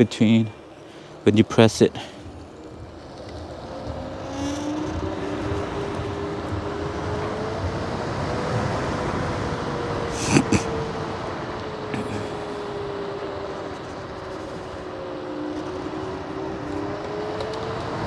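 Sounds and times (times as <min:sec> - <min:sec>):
wind and road noise: 0:00.0 - 0:18.0
electric scooter motor whining: 0:02.0 - 0:10.1, 0:10.8 - 0:18.0.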